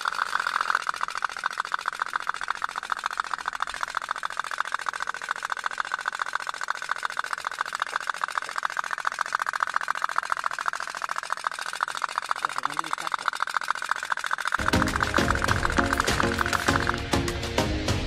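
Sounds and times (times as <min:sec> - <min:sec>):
toy steam boat putt-putt: 0:00.0 - 0:17.1.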